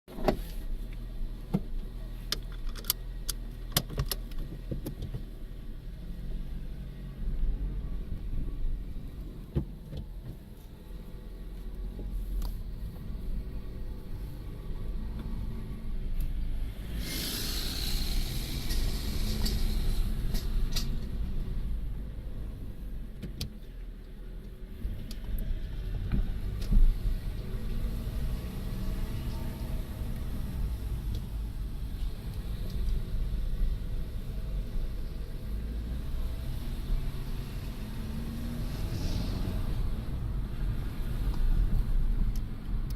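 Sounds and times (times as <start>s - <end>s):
car driving rumble: 0.1s - 42.9s.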